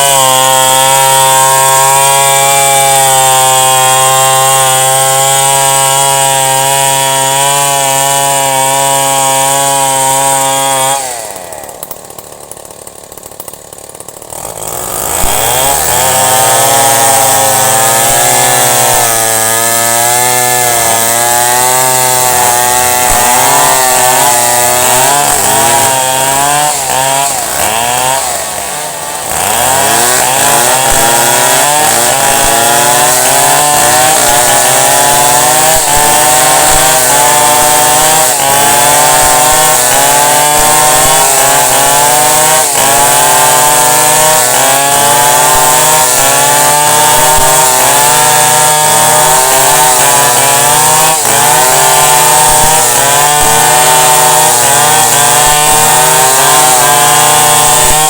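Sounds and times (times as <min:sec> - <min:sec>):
chainsaw cutting into wood: 0:00.0 - 0:58.0.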